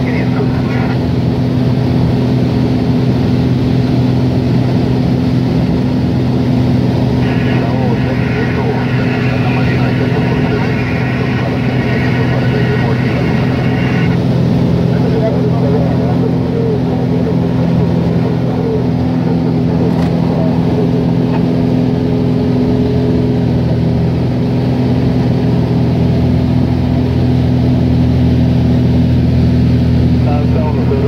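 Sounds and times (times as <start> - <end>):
aircraft engine and propeller drone: 0.0 - 31.0.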